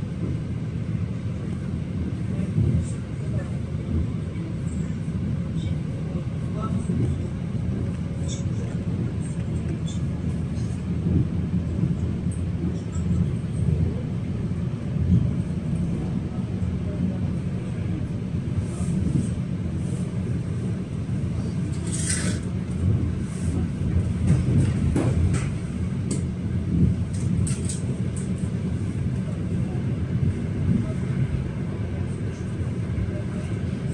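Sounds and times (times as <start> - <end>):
electric train rumble: 0.0 - 33.9.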